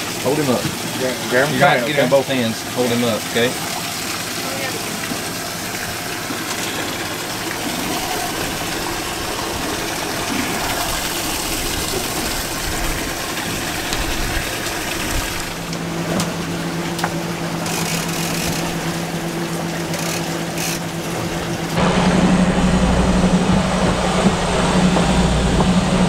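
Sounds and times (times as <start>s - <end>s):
boat engine hum: 0.0s - 26.0s
rushing water: 0.0s - 26.0s.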